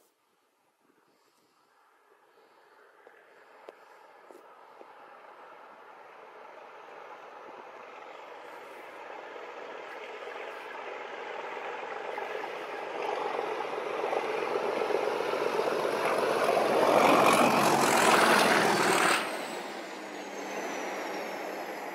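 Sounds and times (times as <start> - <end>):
diesel locomotive passing: 1.2 - 21.9.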